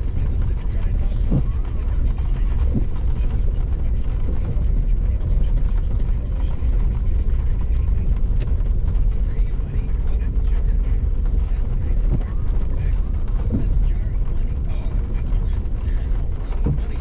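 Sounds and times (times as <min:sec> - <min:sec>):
vehicle body rattling: 0:00.0 - 0:17.0.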